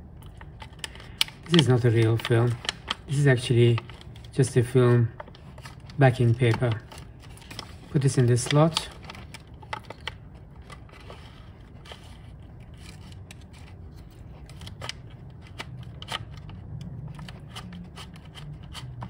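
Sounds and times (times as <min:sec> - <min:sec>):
paper rustling and crackling: 0:00.2 - 0:19.0.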